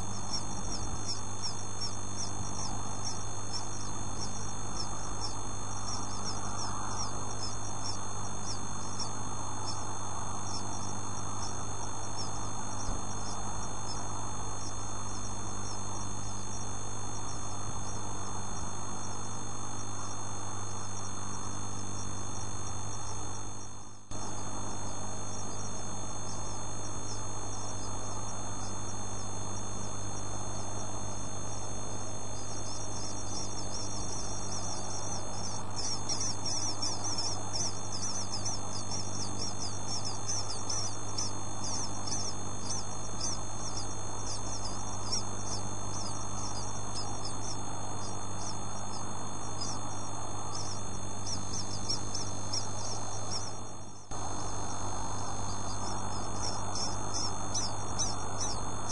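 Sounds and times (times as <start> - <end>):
bird chicks peeping: 0.0 - 19.0, 26.2 - 31.0, 32.2 - 58.9
steady low hum: 0.0 - 58.9.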